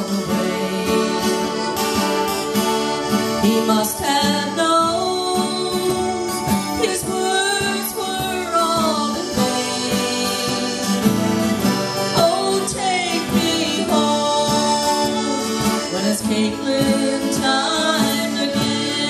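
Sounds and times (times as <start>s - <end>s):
cajon beat: 0.0s - 19.0s
strummed acoustic guitar: 0.0s - 19.0s.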